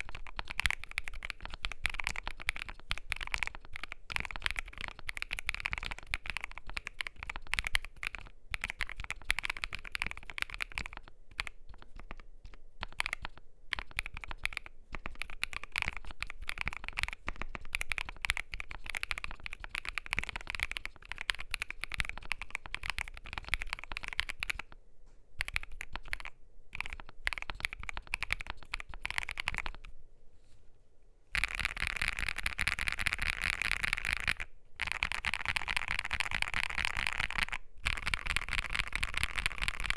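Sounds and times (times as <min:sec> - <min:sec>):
typing on mechanical keyboard: 0:00.0 - 0:24.8, 0:25.4 - 0:29.9, 0:31.3 - 0:39.9.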